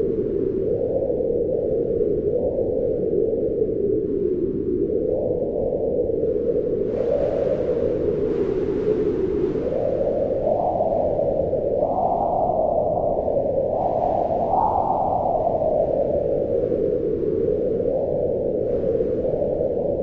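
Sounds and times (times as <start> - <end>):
howling wind: 0.0 - 20.0.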